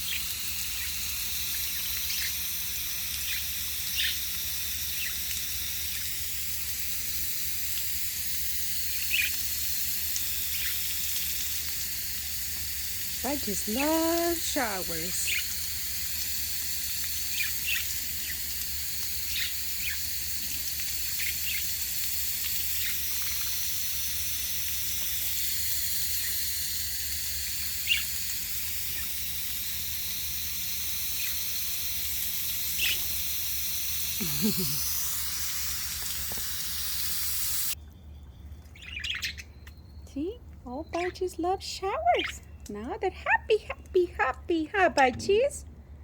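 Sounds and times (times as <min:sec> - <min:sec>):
budgie chirps: 0:00.0 - 0:37.8
water spray hissing: 0:00.0 - 0:37.8.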